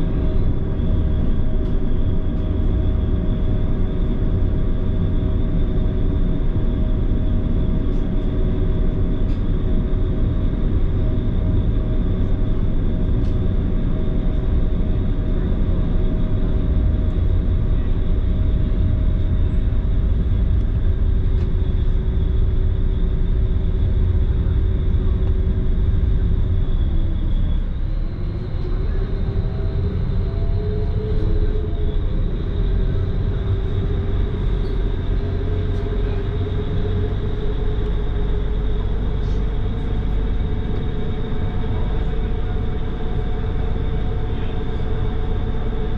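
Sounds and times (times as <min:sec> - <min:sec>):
ferry engines droning hum: 0:00.0 - 0:45.9.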